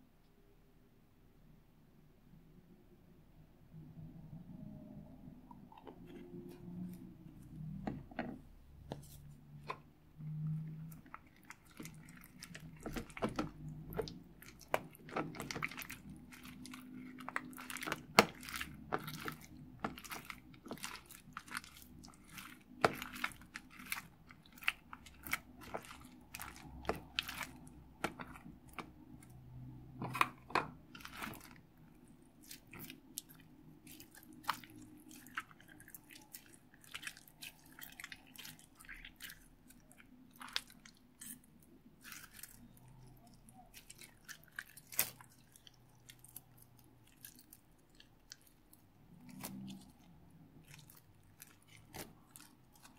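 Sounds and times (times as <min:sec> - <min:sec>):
slime squelching: 0:04.3 - 0:52.9.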